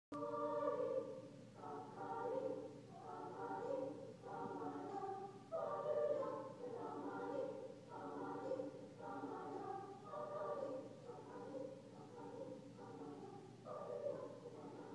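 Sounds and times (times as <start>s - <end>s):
choir singing sustained chords: 0.1s - 14.9s.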